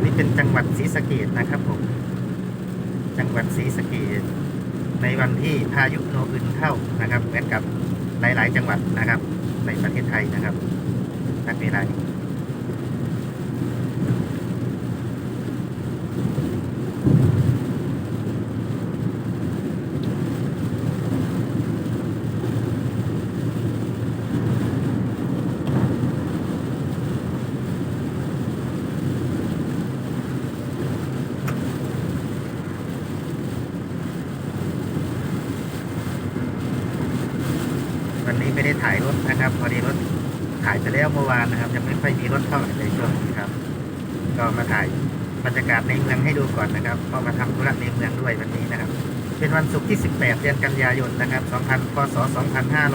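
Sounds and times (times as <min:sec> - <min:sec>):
car engine and road noise: 0:00.0 - 0:52.9
rain on car body: 0:00.0 - 0:52.9.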